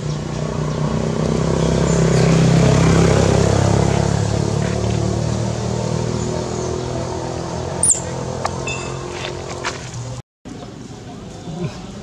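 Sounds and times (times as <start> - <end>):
vehicle engine passing by: 0.0 - 10.2.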